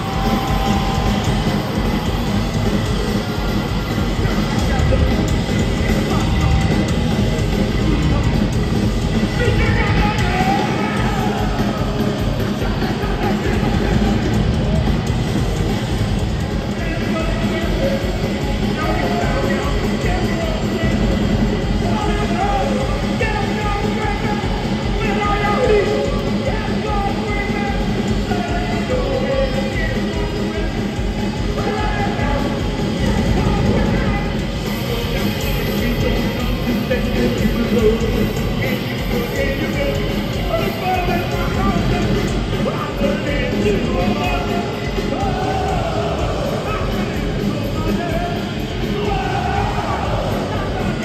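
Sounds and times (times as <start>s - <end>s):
live punk rock band: 0.0s - 51.0s.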